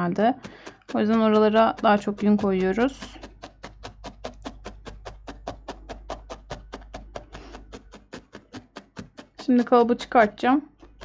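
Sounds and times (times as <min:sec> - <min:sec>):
felting needle stabbing wool: 0:00.0 - 0:11.0.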